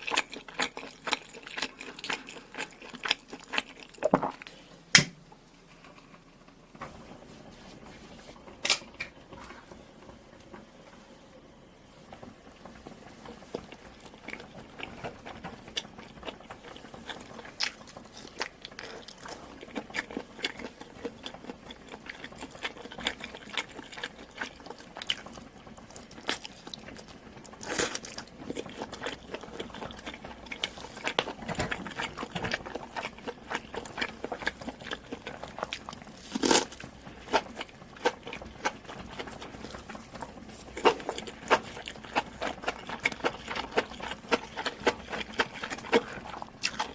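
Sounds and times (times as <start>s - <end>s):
person chewing food: 0.0s - 4.6s, 13.3s - 46.9s.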